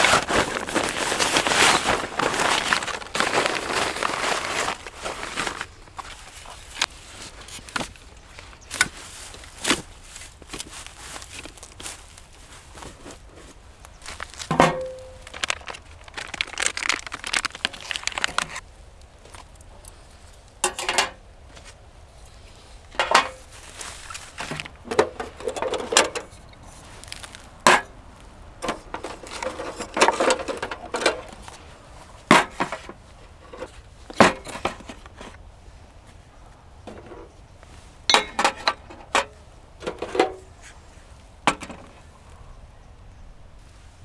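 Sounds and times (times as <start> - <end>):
rustling and crinkling: 0.0 - 42.5.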